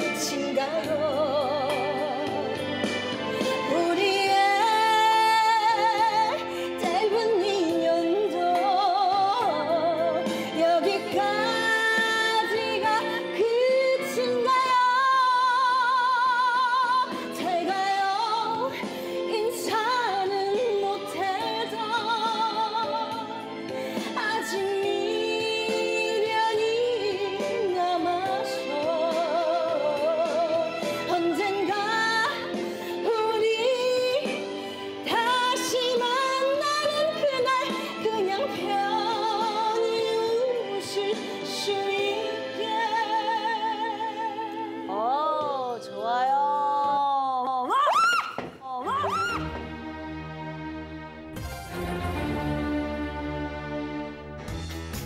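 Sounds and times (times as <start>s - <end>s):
instrumental backing track: 0.0s - 55.0s
woman singing with vibrato: 3.5s - 23.5s, 24.2s - 49.5s.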